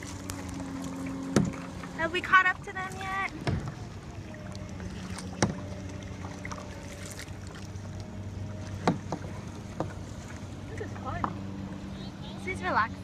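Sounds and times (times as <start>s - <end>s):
paddle knocking: 0.0s - 11.9s
steady low hum: 0.0s - 13.0s.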